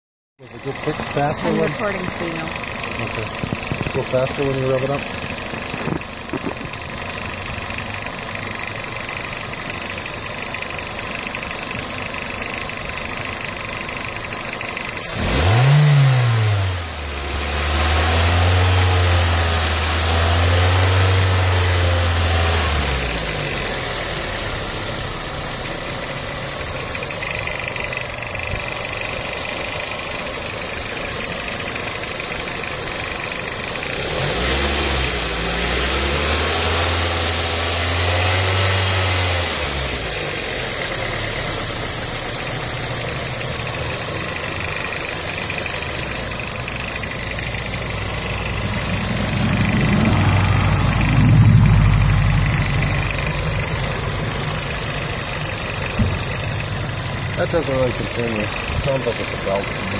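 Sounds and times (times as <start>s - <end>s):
car engine idling and revving: 0.4s - 59.9s
engine ticking: 0.4s - 59.9s.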